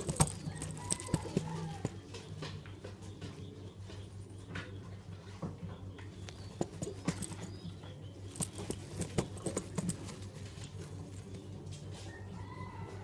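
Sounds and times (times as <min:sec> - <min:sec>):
low steady hum: 0:00.0 - 0:13.0
pigeons clicking and tapping: 0:00.0 - 0:13.0.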